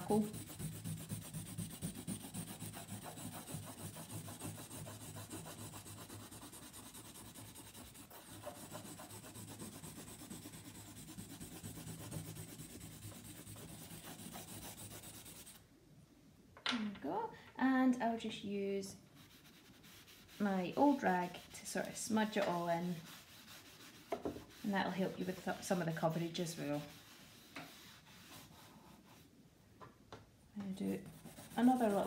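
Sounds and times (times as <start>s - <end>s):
charcoal scratching on paper: 0.0s - 15.6s, 19.2s - 29.3s, 30.8s - 32.0s.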